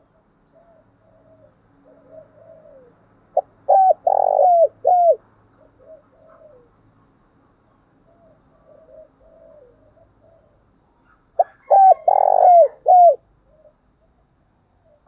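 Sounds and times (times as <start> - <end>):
dove cooing: 0.0 - 6.8, 8.0 - 14.0.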